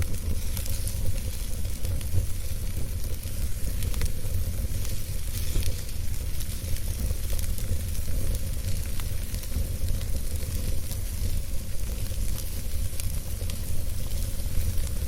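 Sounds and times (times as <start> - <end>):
campfire crackles and pops: 0.0 - 15.0
fire hiss and low rumble: 0.0 - 15.0.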